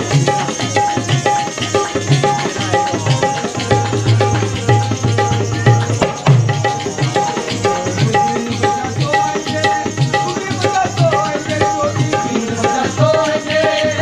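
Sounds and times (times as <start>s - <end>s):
hand drum folk rhythm: 0.0s - 14.0s.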